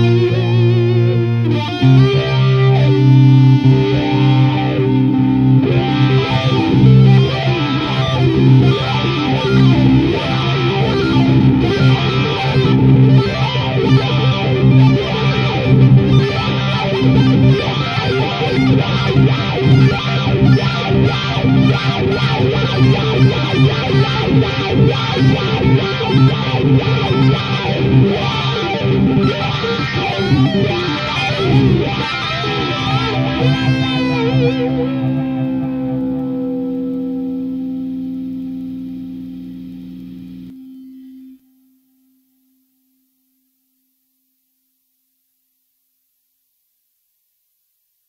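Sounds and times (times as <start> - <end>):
plucked guitar music: 0.0 - 39.2.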